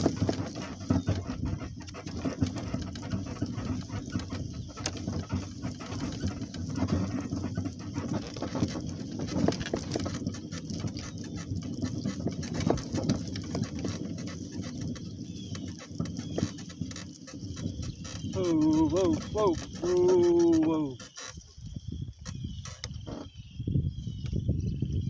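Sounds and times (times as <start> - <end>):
donkey walking through grass: 0.0 - 24.2.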